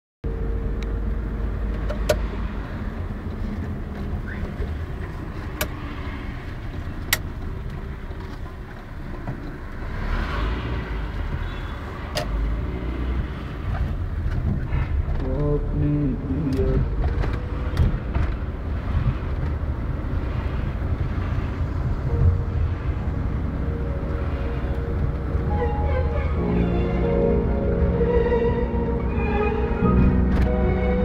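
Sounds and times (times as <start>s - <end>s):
car engine and road rumble: 0.2s - 31.0s.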